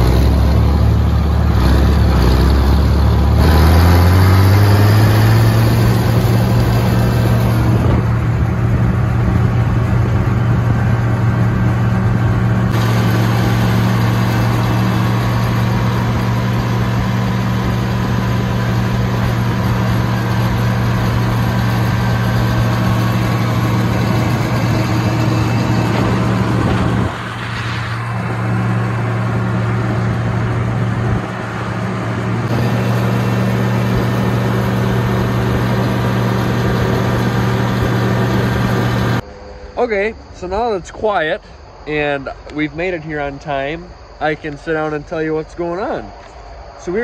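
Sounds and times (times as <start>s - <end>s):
tractor engine running: 0.0s - 40.6s.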